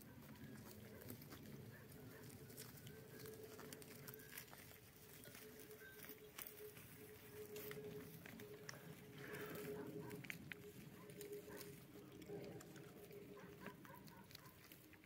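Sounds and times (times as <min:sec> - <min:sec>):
faint steady hum: 0:00.0 - 0:15.0
goats cropping grass: 0:00.0 - 0:15.0
hooves stepping among stones: 0:00.0 - 0:15.0.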